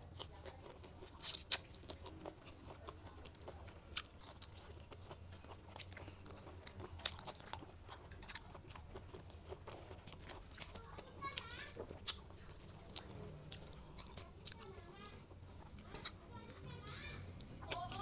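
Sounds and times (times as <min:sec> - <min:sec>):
fruit being bitten and chewed: 0:00.0 - 0:18.0.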